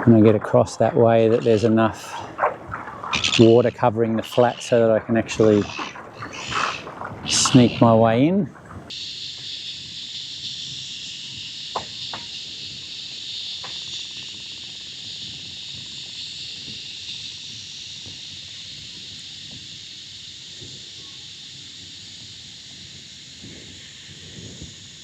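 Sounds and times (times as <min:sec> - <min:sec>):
cicadas chorus: 0:00.0 - 0:25.0.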